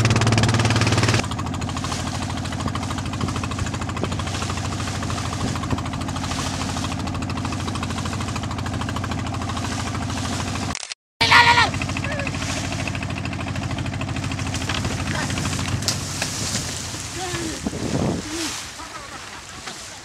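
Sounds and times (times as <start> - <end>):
boat engine knocking: 0.0 - 10.7, 11.3 - 20.0.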